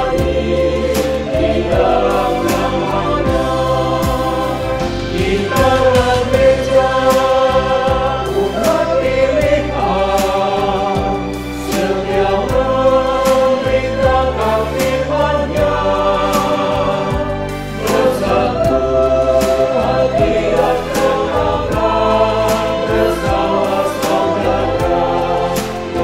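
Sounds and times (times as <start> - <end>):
band with bass and drums: 0.0 - 26.0
mixed choir singing in harmony: 0.0 - 26.0.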